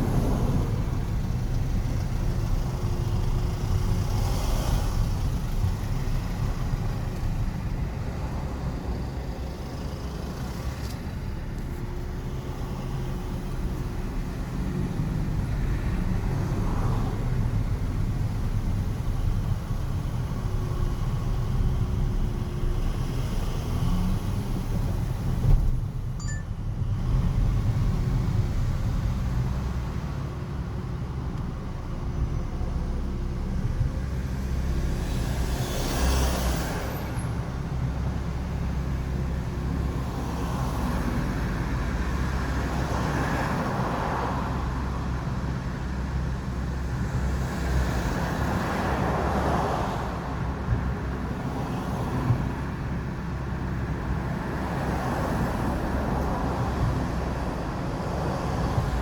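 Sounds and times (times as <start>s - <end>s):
traffic rumble: 0.0s - 59.0s
vehicles passing by: 0.0s - 59.0s.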